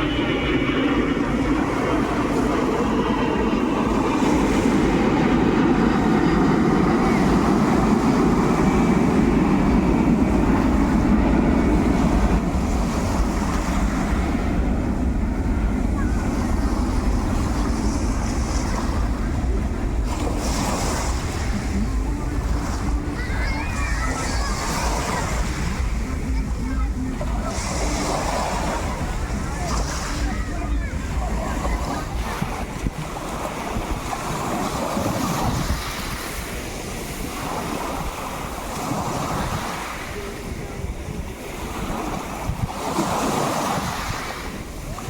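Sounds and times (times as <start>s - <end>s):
sea noise: 0.0s - 45.0s
wind buffeting microphone: 0.0s - 45.0s.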